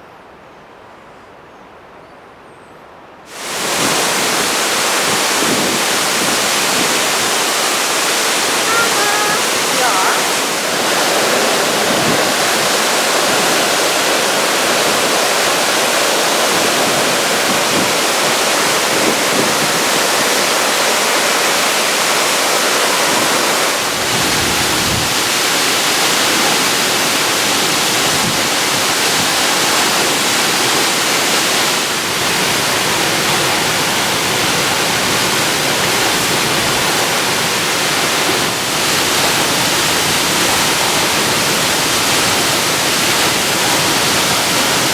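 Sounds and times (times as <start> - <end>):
waterfall rushing: 3.3 - 44.9.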